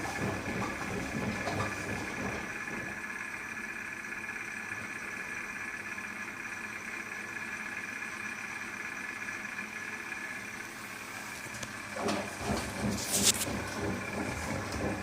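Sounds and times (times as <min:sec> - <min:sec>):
washing machine hiss and hum: 0:00.0 - 0:15.0.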